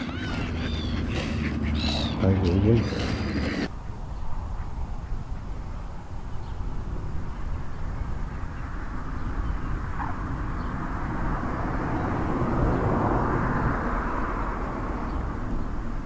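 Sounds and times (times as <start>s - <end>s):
vehicle passing by: 0.0s - 3.8s, 5.5s - 16.0s.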